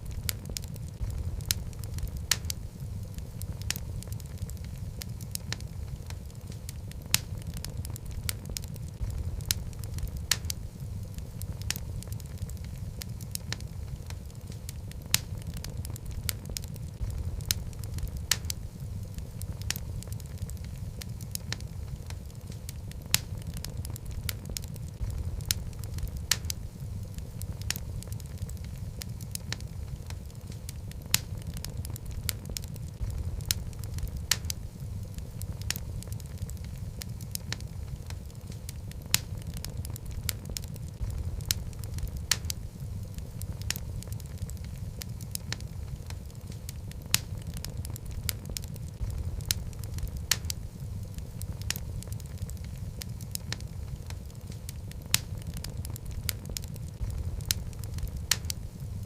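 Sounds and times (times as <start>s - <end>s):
low rumble of flame: 0.0s - 59.0s
wood fire crackling and popping: 0.0s - 59.0s.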